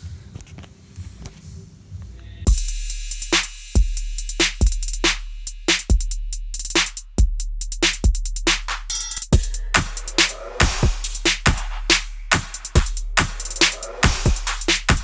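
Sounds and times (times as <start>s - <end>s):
electronic music with drum-machine beat: 2.5s - 15.0s.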